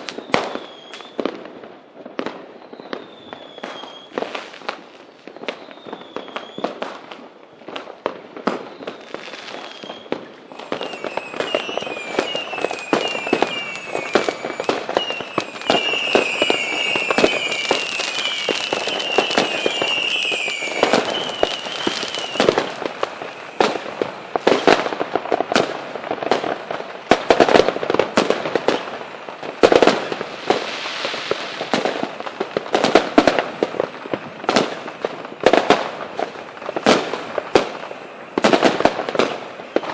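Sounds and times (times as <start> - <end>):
falling firework whistles: 0.0 - 39.9
fireworks bangs and crackling: 0.0 - 39.9.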